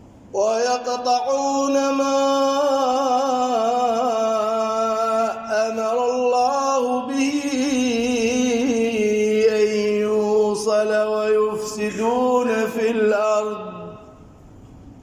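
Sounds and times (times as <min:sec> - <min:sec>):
man chanting melodically: 0:00.4 - 0:14.2.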